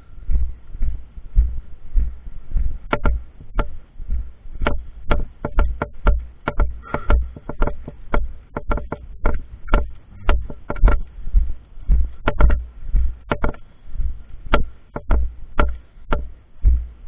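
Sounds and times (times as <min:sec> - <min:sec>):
footsteps thudding: 0:00.2 - 0:17.0
sharp clicks and knocks: 0:01.4 - 0:17.0.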